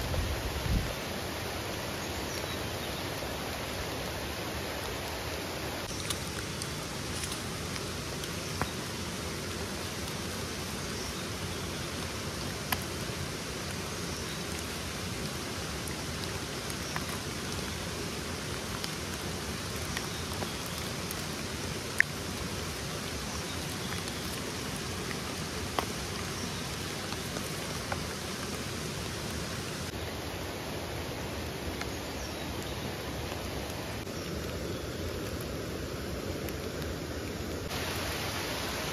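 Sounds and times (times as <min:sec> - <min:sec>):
forest ambience hiss: 0:00.0 - 0:38.9.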